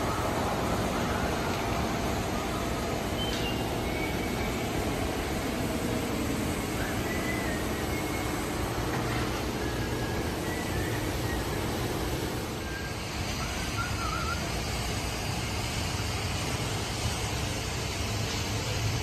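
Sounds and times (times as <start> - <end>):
machinery running with low rumble: 0.0 - 19.0.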